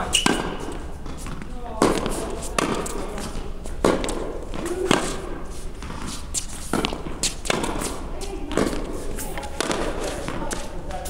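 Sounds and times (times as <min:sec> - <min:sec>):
ball bouncing on hard court: 0:00.0 - 0:05.2, 0:05.8 - 0:11.0
tennis ball hit with racquets: 0:00.0 - 0:11.0.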